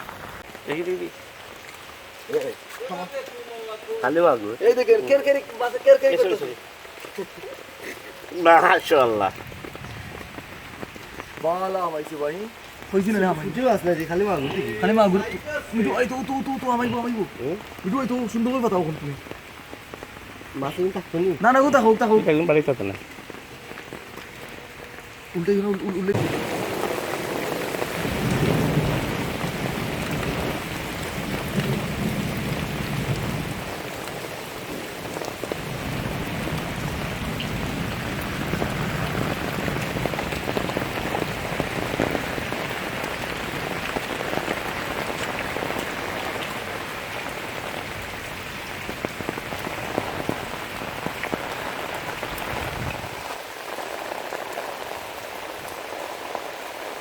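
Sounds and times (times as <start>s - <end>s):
heavy rain on water and ground: 0.0s - 57.0s.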